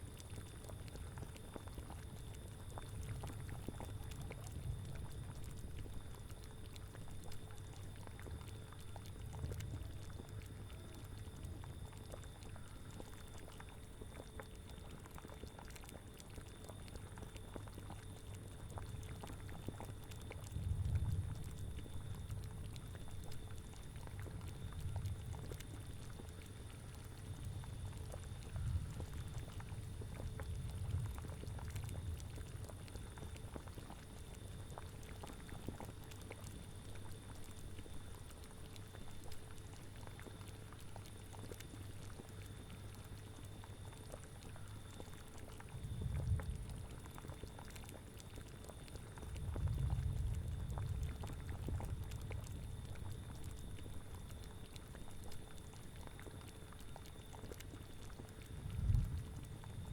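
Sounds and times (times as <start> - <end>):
cauldron bubbling: 0.1 - 59.9.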